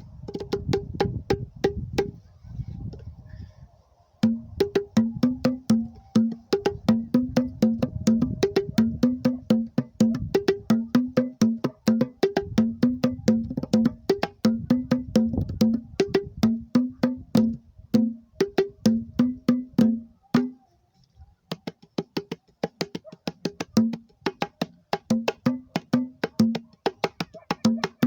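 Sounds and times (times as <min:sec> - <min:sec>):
wooden box drums: 0:04.2 - 0:20.6, 0:21.5 - 0:28.0.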